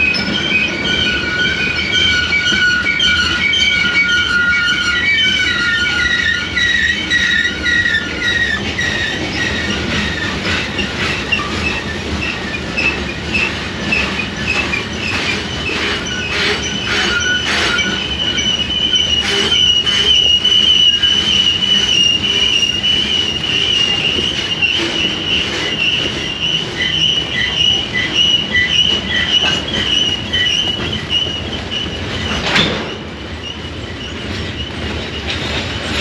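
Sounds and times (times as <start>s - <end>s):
clicks of wheels on rail: 0.0s - 36.0s
train wheels squealing: 0.0s - 36.0s
wheels rumbling on rail: 0.0s - 36.0s.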